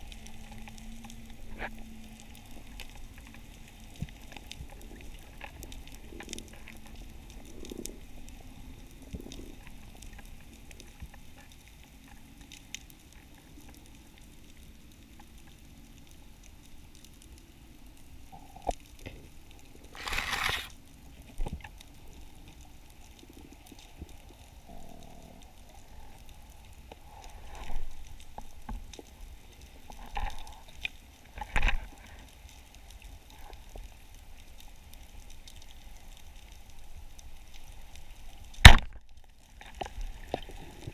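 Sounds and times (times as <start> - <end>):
steady low underwater rush: 0.0 - 40.9.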